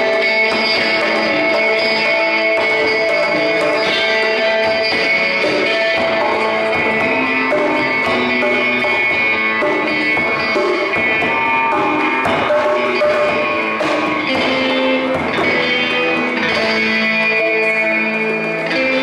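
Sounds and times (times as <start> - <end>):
drums struck with a stick: 0.0 - 17.2
electric guitar sustained notes: 0.0 - 19.0.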